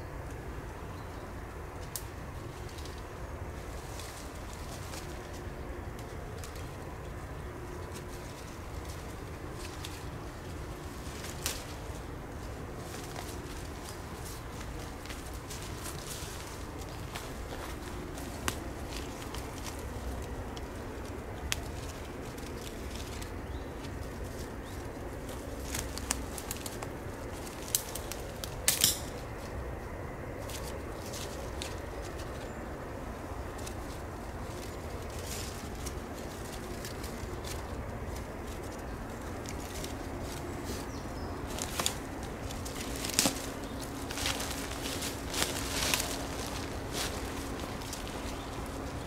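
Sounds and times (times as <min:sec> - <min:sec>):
leaves and twigs rustling: 0:00.0 - 0:49.0
footsteps on forest litter: 0:03.6 - 0:29.6, 0:30.4 - 0:49.0.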